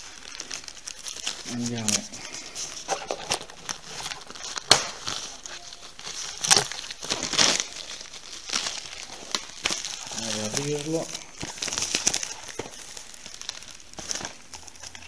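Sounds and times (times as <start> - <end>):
plastic shrink-wrap crinkling: 0.0 - 15.0.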